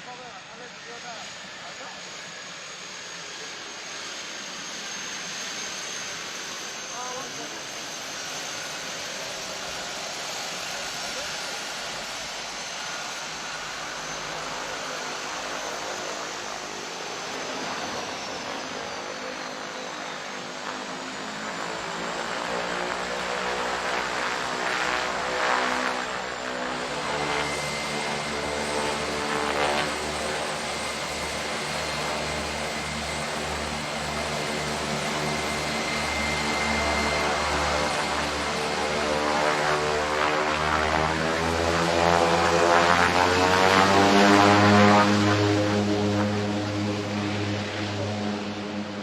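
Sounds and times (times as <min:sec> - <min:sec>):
propeller engines droning: 0:00.0 - 0:49.0.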